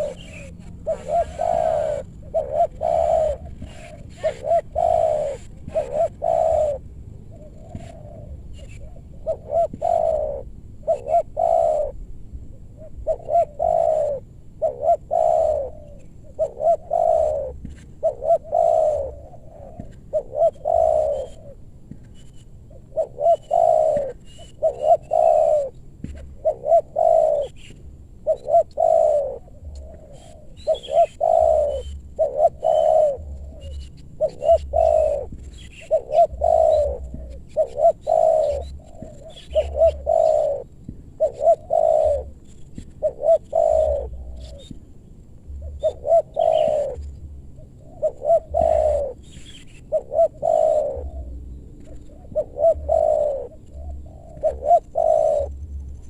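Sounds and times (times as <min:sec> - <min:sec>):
dove cooing: 0:00.0 - 0:56.0
small birds chirping: 0:00.0 - 0:56.0.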